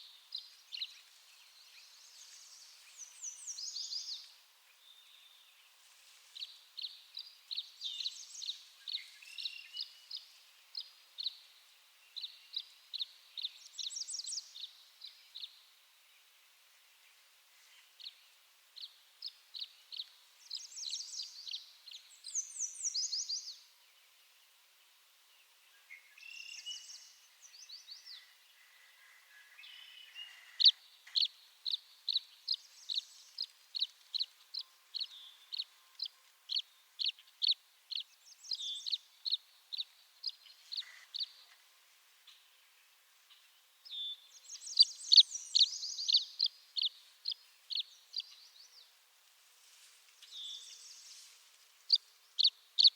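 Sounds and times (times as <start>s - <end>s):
bird chirping: 0.0s - 5.8s, 6.4s - 15.7s, 17.7s - 24.5s, 25.3s - 49.0s, 50.2s - 52.9s.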